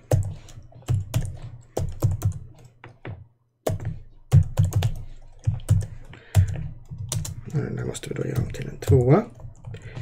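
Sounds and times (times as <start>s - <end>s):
keyboard typing: 0.0s - 3.0s, 3.6s - 10.0s.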